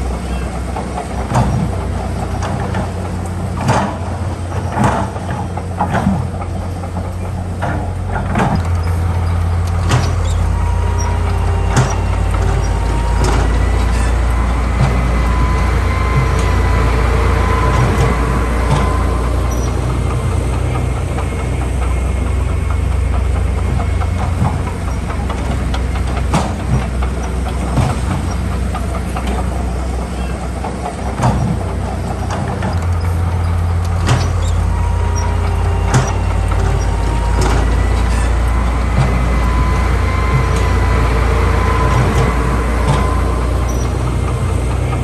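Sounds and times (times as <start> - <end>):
diesel earthmoving machinery running: 0.0 - 45.0.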